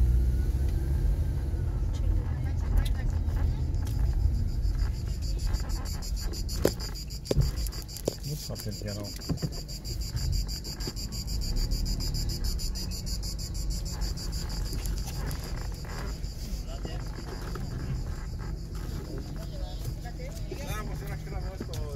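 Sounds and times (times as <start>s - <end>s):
low rumble: 0.0s - 7.9s, 10.0s - 20.4s
cicadas buzzing: 2.7s - 21.9s.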